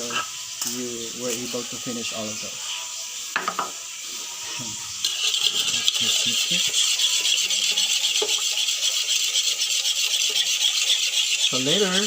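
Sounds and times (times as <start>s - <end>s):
hot oil sizzling in a pan: 0.0s - 12.0s.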